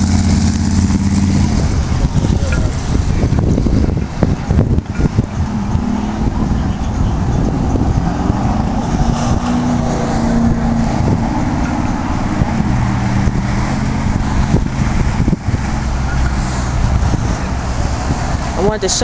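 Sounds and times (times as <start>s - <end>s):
car engines running: 0.0s - 19.0s.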